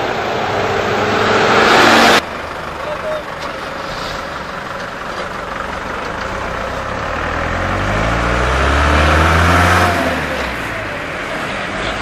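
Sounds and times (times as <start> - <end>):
highway traffic tyre noise: 0.0 - 12.0
passing vehicle engine hum: 0.0 - 12.0.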